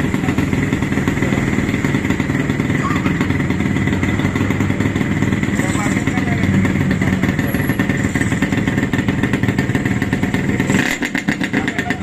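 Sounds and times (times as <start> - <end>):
two-stroke motorcycle engine running: 0.0 - 12.0.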